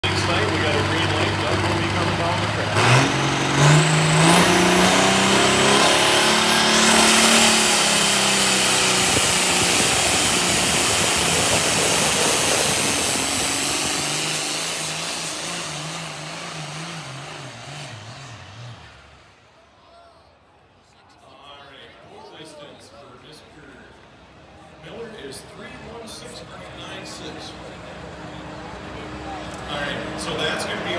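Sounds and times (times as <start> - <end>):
tractor engine at full throttle: 0.0 - 19.5, 24.9 - 30.9.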